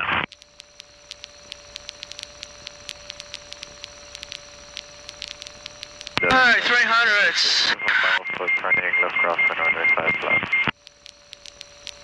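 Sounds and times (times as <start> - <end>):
electrical whine and hiss: 0.0 - 12.0
radio static crackling: 0.0 - 12.0.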